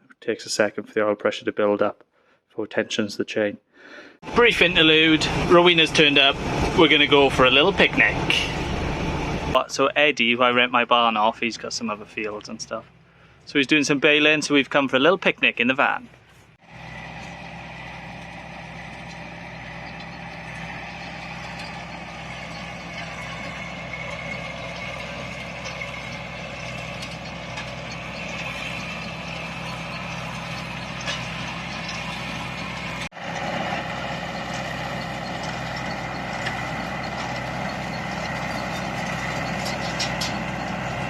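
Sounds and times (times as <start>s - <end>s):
tractor engine droning: 4.2s - 41.0s.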